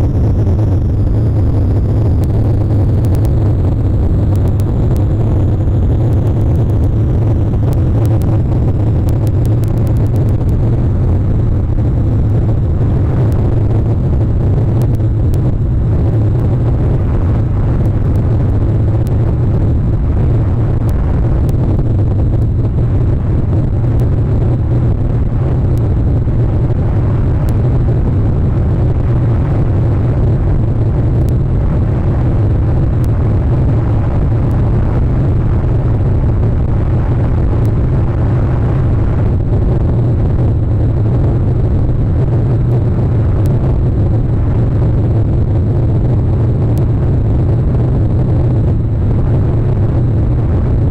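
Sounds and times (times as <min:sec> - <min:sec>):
low rumble and hiss: 0:00.0 - 0:50.9.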